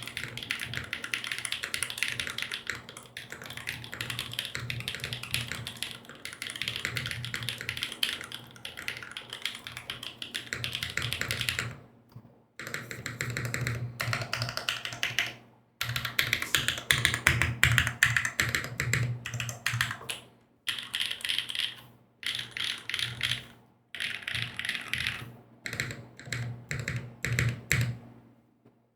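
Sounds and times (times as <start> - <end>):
typing on mechanical keyboard: 0.0 - 11.8, 12.6 - 28.0.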